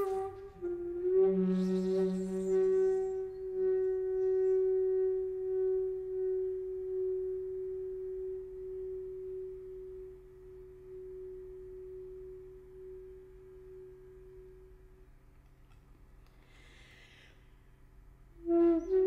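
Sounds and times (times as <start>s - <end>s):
long held music note: 0.0s - 15.4s
faint low hum: 0.0s - 19.0s.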